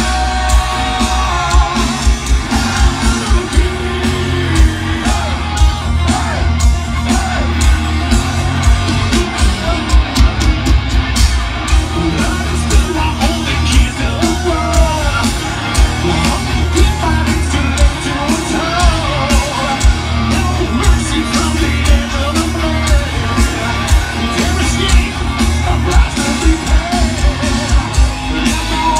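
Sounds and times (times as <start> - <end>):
lead vocal singing: 0.0 - 10.6, 11.7 - 28.9
crowd shouting along: 0.0 - 28.9
heavy metal band playing live: 0.0 - 28.9.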